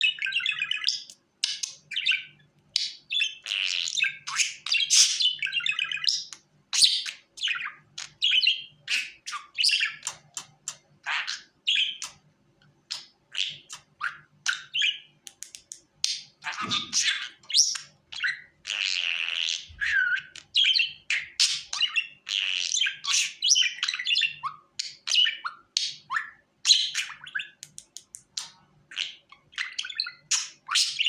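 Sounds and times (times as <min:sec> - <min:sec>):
budgerigar chirping and warbling: 0:00.0 - 0:12.2, 0:12.9 - 0:15.1, 0:16.0 - 0:27.8, 0:28.4 - 0:31.0.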